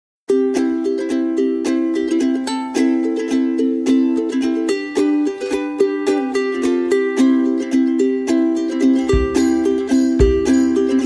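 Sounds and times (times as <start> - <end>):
light tune of plucked notes: 0.3 - 11.0.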